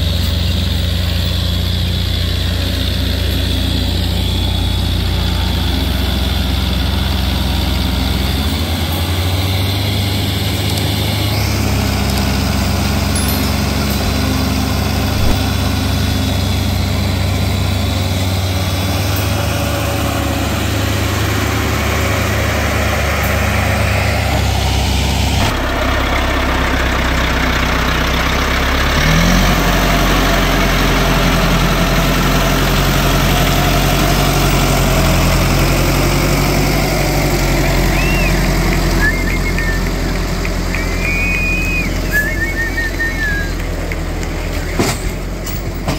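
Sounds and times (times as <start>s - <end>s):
engine revving: 0.0s - 44.9s
diesel engines running: 0.0s - 45.9s.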